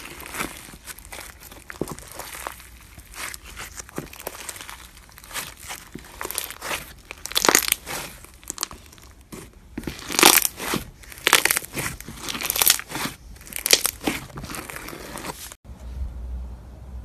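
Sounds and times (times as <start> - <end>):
hands squeezing crunchy slime: 0.0 - 15.6.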